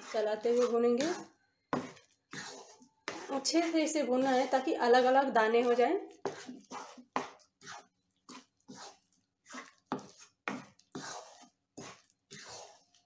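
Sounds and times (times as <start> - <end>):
wooden spatula scraping a pan: 0.0 - 13.0.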